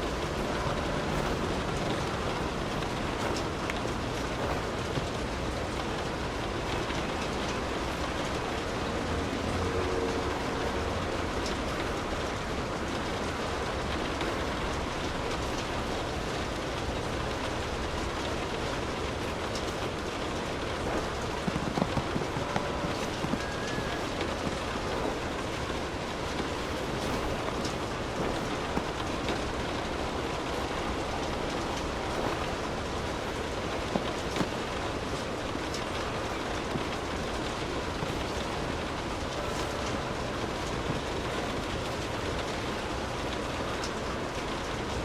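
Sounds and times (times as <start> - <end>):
steady rainfall: 0.0 - 45.0.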